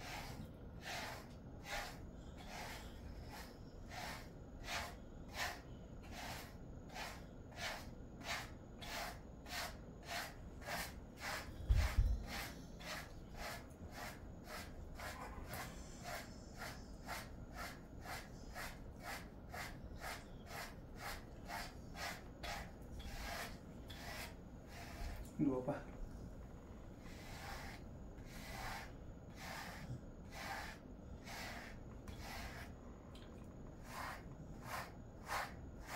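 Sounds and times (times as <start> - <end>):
brush stroking dog's coat: 0.0 - 25.7, 27.0 - 32.7, 33.8 - 35.9.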